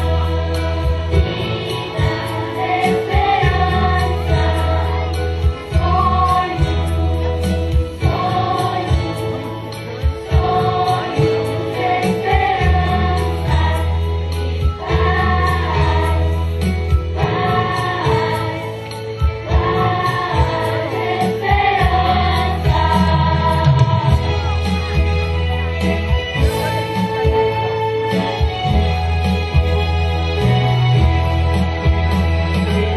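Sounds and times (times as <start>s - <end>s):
children's choir singing: 0.0s - 29.2s
accompaniment with steady bass: 0.0s - 32.9s.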